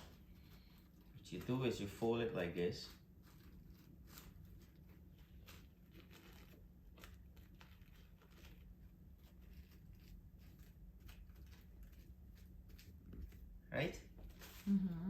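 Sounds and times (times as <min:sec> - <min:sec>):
paper being folded: 0:00.0 - 0:13.6
steady low hum: 0:00.0 - 0:15.0.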